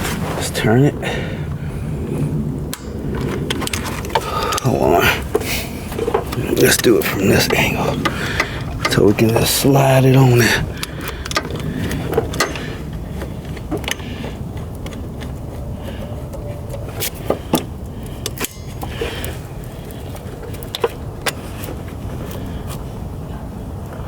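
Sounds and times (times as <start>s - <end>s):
low background rumble: 0.0s - 24.0s
clicks and knocks of parts handled: 2.7s - 22.8s.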